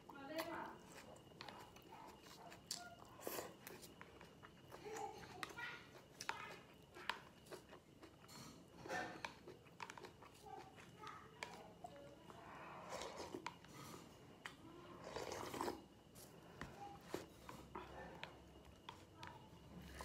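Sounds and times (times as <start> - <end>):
chewing: 0.0 - 20.0.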